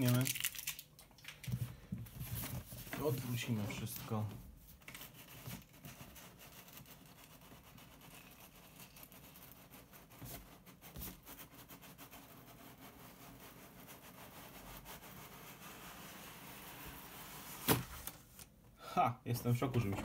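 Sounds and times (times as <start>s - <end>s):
cardboard rubbing and sliding: 2.1s - 18.4s.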